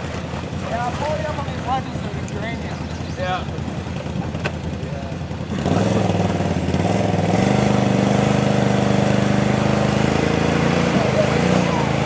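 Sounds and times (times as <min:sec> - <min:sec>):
vehicle engine running under load: 0:00.0 - 0:12.0.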